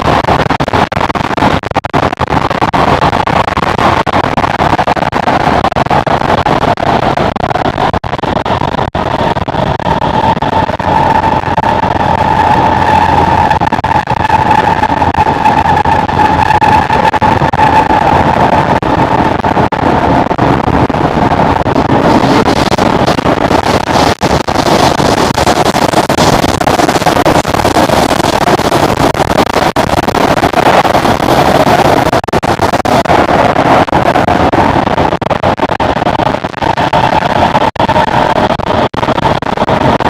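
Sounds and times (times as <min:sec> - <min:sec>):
constant train whine: 0:00.0 - 0:40.0
train rumble and rail noise: 0:00.0 - 0:40.0.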